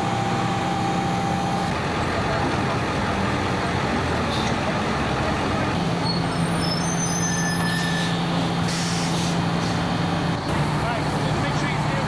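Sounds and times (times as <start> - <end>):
fire engine pump running: 0.0 - 12.0.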